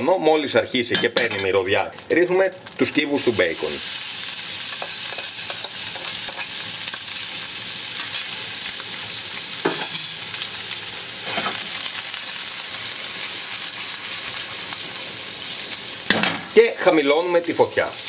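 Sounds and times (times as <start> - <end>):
bacon sizzling and crackling: 0.0 - 18.0.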